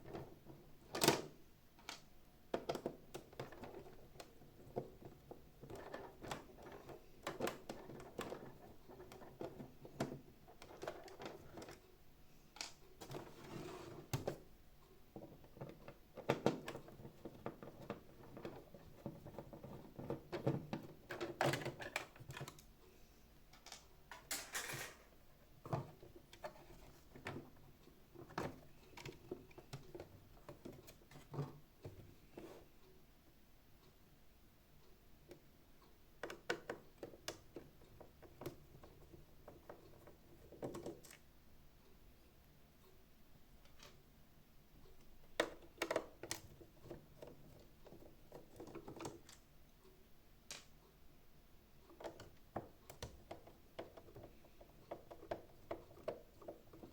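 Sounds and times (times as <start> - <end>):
plastic parts clicking and knocking: 0.0 - 11.9, 12.5 - 22.8, 23.5 - 32.6, 36.2 - 41.3, 44.8 - 49.6, 50.4 - 50.8, 51.8 - 56.9.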